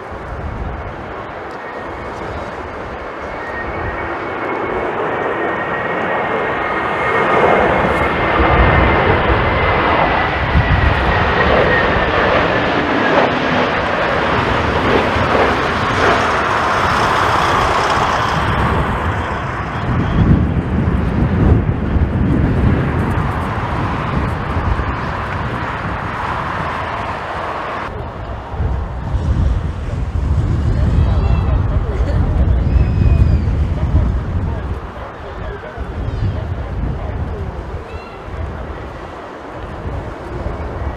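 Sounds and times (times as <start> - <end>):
jet engines with high whine: 0.0 - 40.9.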